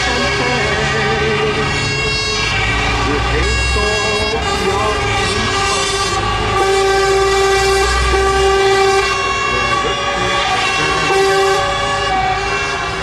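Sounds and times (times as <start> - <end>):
diesel truck engines rumbling: 0.0 - 13.0
truck air horns blowing: 0.0 - 13.0.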